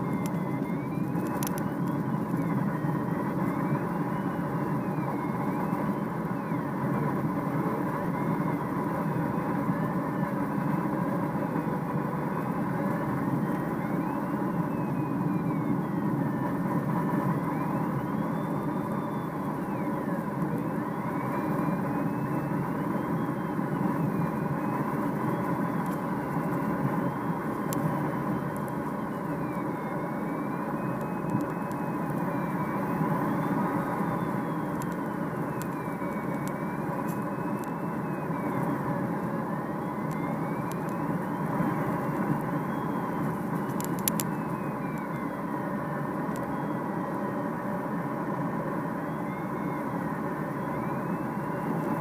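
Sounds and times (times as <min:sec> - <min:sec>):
electronic variometer tone: 0:00.0 - 0:52.0
tow plane engine drone: 0:00.0 - 0:52.0.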